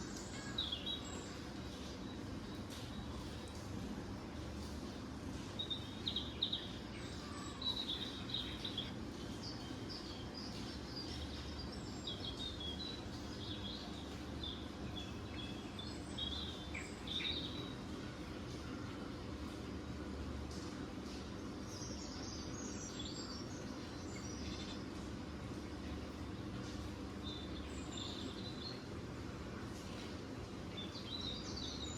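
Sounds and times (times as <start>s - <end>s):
small birds chirping: 0.0s - 19.6s, 20.6s - 31.9s.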